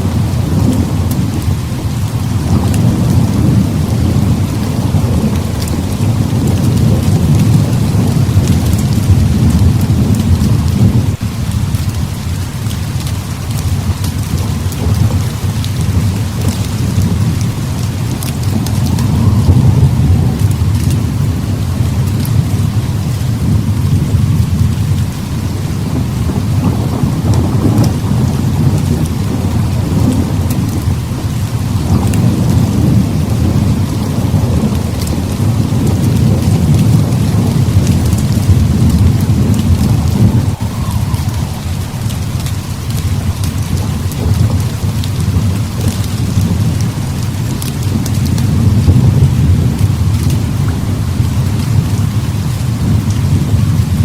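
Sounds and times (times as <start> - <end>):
heavy rain pouring: 0.0 - 54.0
rolling thunder rumble: 0.0 - 54.0.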